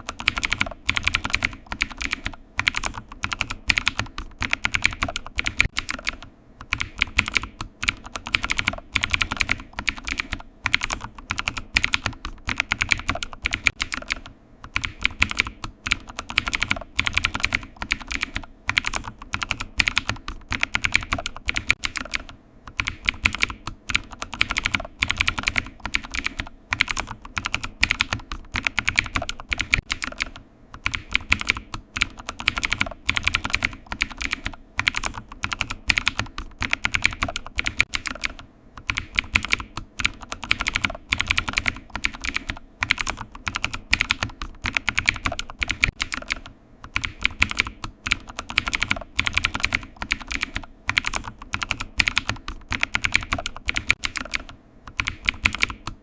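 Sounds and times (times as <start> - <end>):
computer keyboard typing: 0.0 - 56.0.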